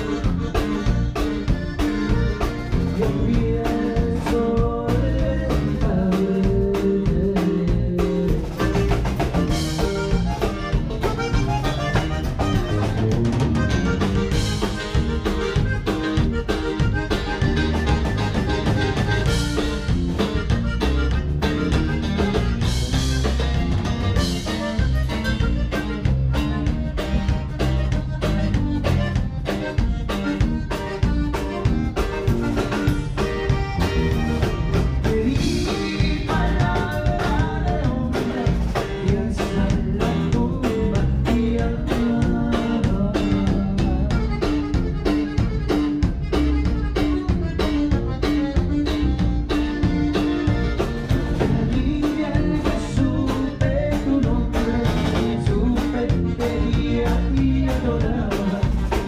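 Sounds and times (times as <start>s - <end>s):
bajo sexto: 0.0s - 59.0s
button accordion melody: 0.0s - 59.0s
drum kit beat: 0.0s - 59.0s
electric bass: 0.0s - 59.0s.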